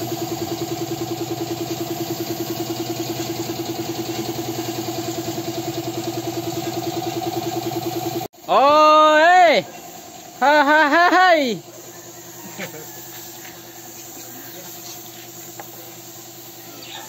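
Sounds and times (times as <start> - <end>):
air compressor throbbing: 0.0 - 17.0.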